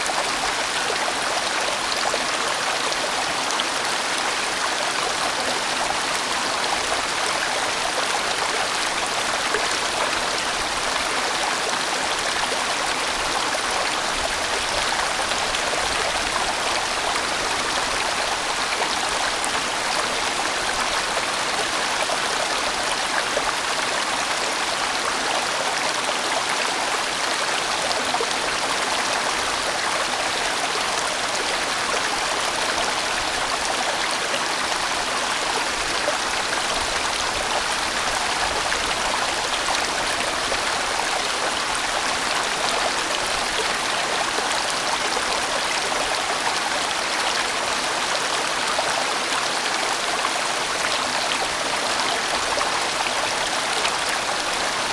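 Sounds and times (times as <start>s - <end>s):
stream flowing over rocks: 0.0s - 54.9s.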